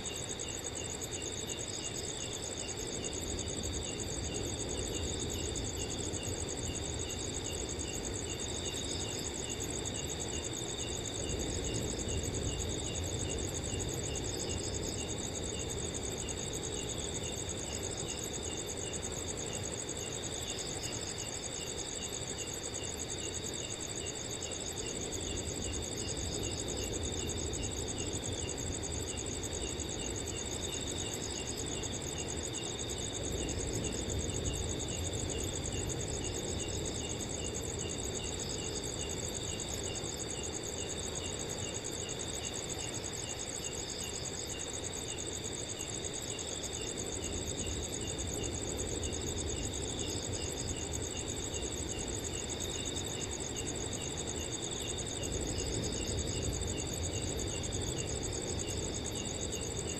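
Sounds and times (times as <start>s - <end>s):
cricket chirping: 0.0s - 59.9s
crickets trilling: 0.0s - 59.9s.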